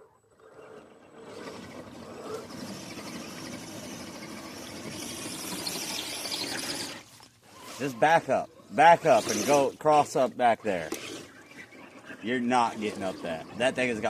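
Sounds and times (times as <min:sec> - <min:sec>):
electric motor and gearbox whining: 0:01.1 - 0:14.0.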